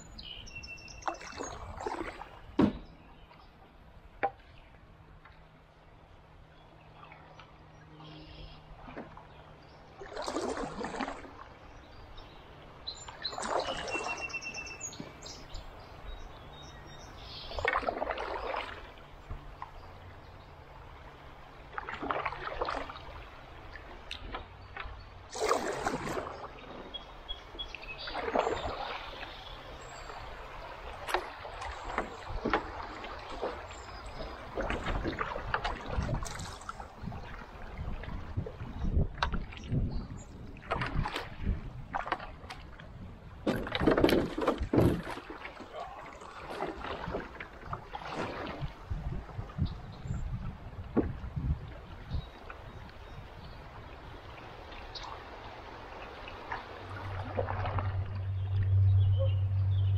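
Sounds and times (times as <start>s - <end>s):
paddle splashing in water: 0.2s - 5.6s, 6.9s - 59.3s.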